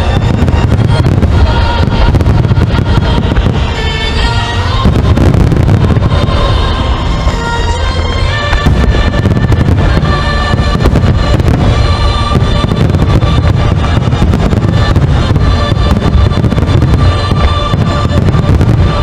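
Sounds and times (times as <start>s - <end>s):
fireworks bursting and crackling: 0.0s - 19.0s
low rumble: 0.0s - 19.0s
music with held notes: 0.0s - 19.0s.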